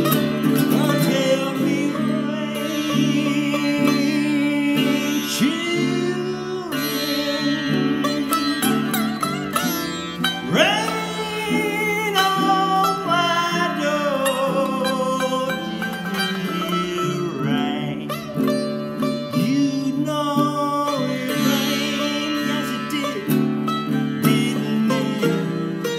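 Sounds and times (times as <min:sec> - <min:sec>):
baritone ukulele: 0:00.0 - 0:25.9
sitar plucked notes: 0:00.0 - 0:25.9.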